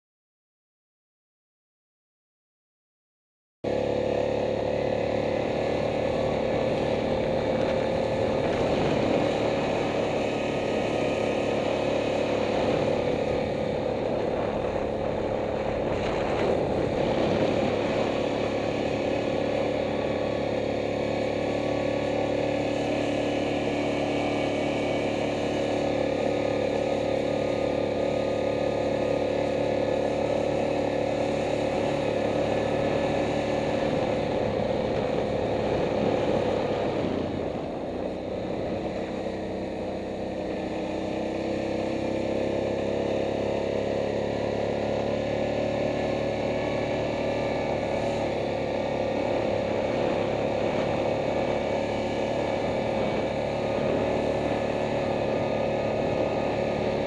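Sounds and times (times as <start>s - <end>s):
atv engine running: 3.6s - 57.0s.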